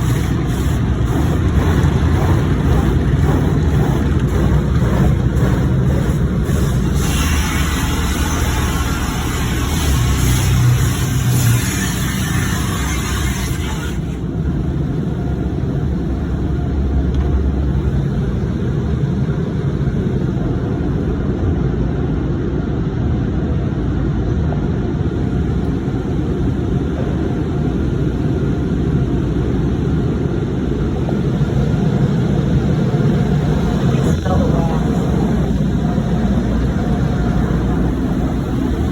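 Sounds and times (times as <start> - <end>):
car wash hiss: 0.0 - 21.4, 25.1 - 38.9
steady low rumble: 0.0 - 38.9.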